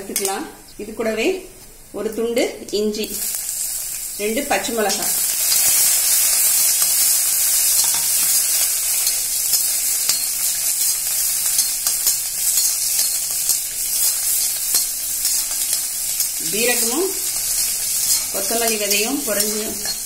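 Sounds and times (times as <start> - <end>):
seeds sizzling in hot oil: 2.9 - 20.0.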